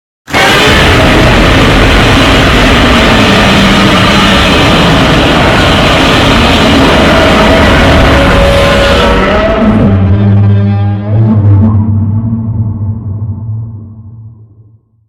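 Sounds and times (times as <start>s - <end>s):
harsh monster sound effect: 0.3s - 14.6s.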